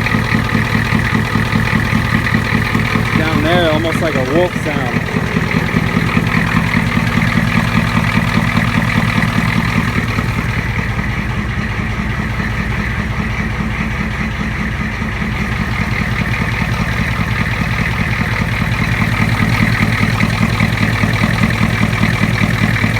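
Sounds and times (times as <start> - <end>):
truck engine idling: 0.0 - 22.9.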